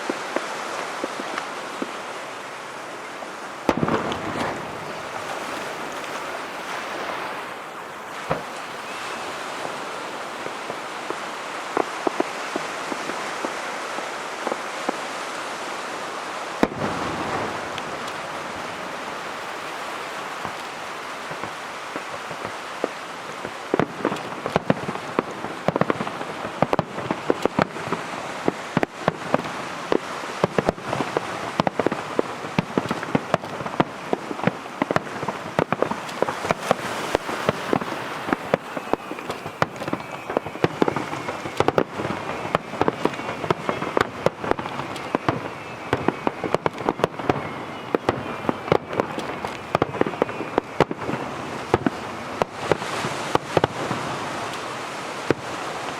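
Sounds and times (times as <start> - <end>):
crackling firework stars: 0.0 - 55.9
firework shells bursting: 3.6 - 13.6, 16.6 - 55.9.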